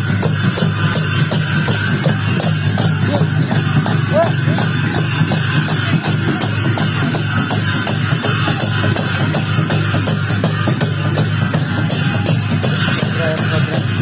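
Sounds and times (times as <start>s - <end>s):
cymbals ringing: 0.0s - 14.0s
dhol drums rhythm: 0.0s - 14.0s.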